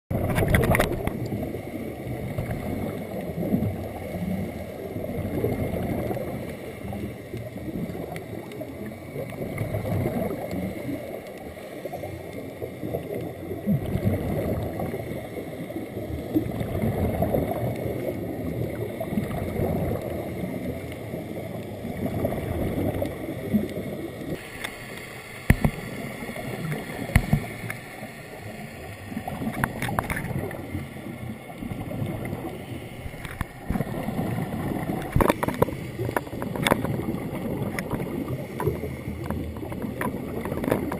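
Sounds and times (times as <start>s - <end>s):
underwater rumble and bubbling: 0.1s - 40.9s.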